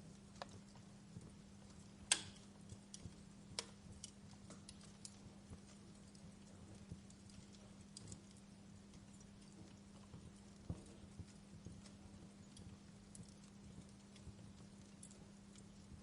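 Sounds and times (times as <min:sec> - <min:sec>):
faint low hum: 0:00.0 - 0:16.0
wood fire crackling: 0:00.0 - 0:16.0.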